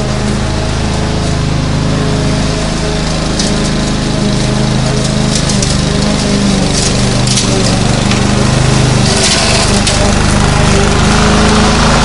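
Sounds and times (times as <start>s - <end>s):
grass crackling: 0.0s - 12.0s
lawn mower engine running: 0.0s - 12.0s.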